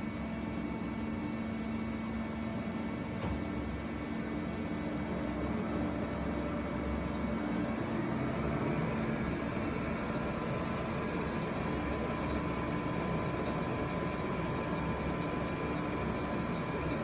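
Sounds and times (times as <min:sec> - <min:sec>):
machinery hum: 0:00.0 - 0:17.0.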